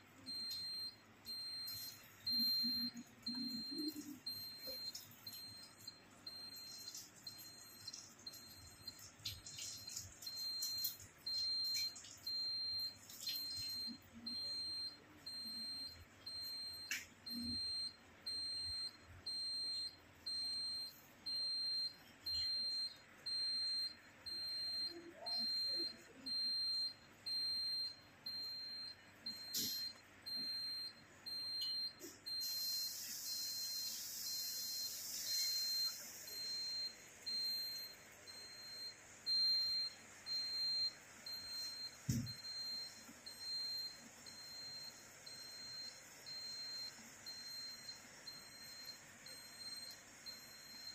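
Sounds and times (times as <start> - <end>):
electronic alarm beeping: 0.2 - 50.9.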